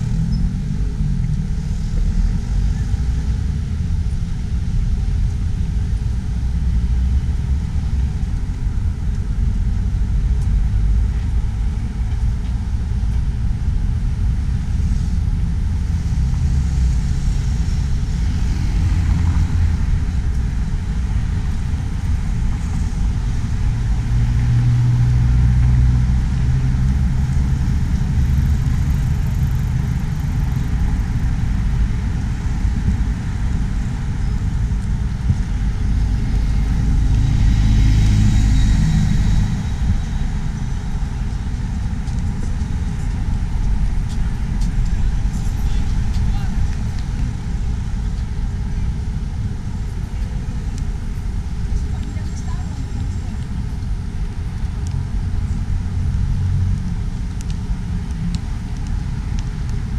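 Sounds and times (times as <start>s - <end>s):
road traffic rumble: 0.0s - 59.9s
vehicle engine: 0.0s - 59.9s.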